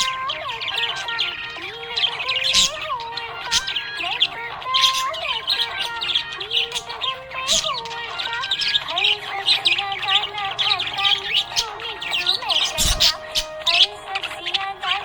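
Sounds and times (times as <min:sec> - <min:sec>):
background song: 0:00.0 - 0:15.0
budgerigars chirping: 0:00.0 - 0:15.0.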